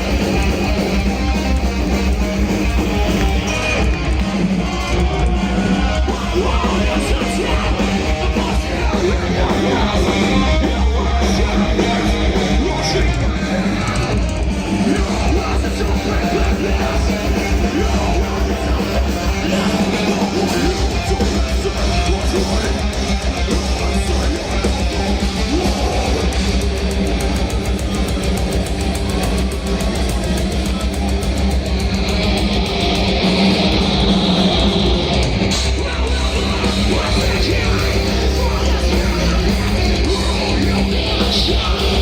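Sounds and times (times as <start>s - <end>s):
heavy electric guitars: 0.0s - 42.0s
metal band playing live: 0.0s - 42.0s.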